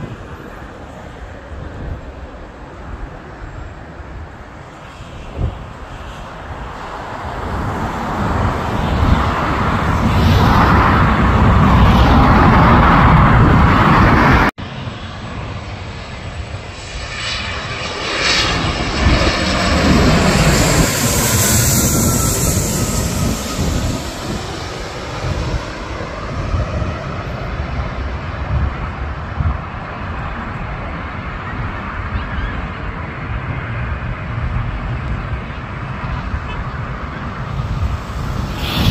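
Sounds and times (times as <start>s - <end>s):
jet engine roar: 0.0s - 38.9s
jet passing overhead with whine: 0.0s - 38.9s.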